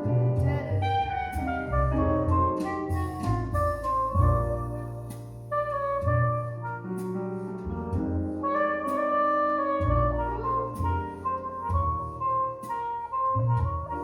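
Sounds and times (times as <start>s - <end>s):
bass line: 0.0s - 14.0s
piano chords: 0.0s - 14.0s
wind instrument melody: 0.0s - 14.0s.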